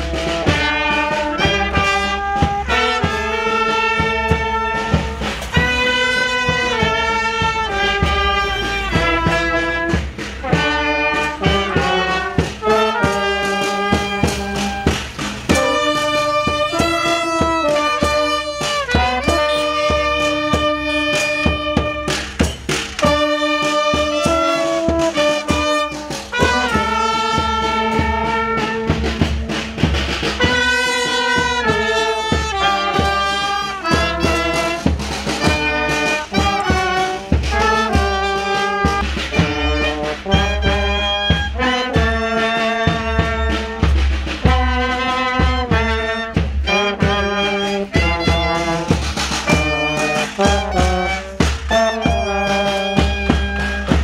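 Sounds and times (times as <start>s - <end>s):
brass band playing melody: 0.0s - 54.0s
drum keeping time: 0.0s - 54.0s.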